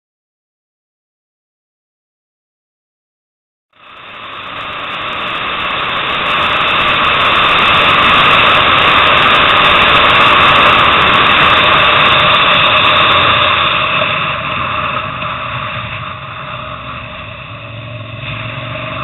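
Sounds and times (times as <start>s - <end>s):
motorcycle engine at speed: 3.8s - 19.0s
wind noise: 3.8s - 19.0s.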